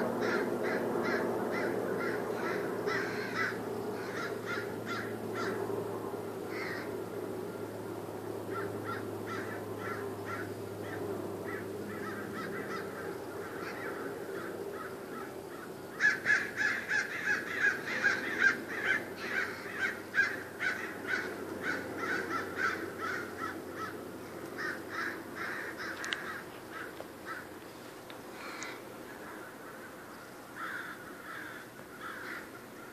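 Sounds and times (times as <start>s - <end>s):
crows cawing alarm calls: 0.0s - 5.7s, 6.4s - 7.7s, 8.4s - 27.6s, 28.3s - 32.9s.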